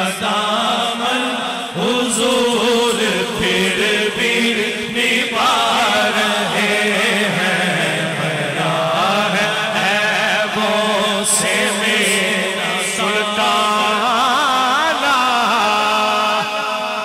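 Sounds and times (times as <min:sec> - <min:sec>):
drone of backing voices: 0:00.0 - 0:17.0
man singing ornamented line: 0:00.0 - 0:17.0.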